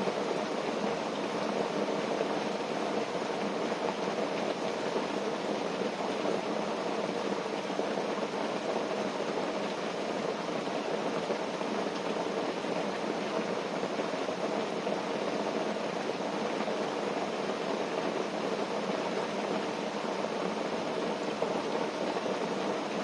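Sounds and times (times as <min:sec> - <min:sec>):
rain falling on a tent: 0:00.0 - 0:23.0.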